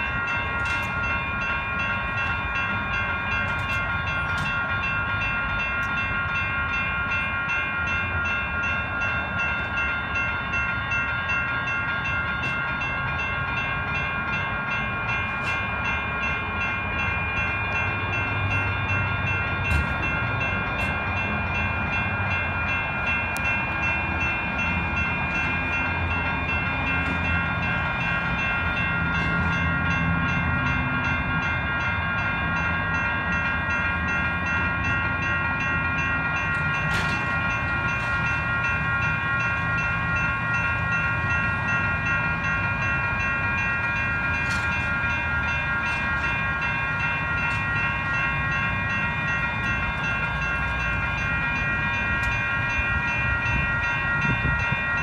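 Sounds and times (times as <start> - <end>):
railroad crossing bells ringing: 0.0 - 55.0.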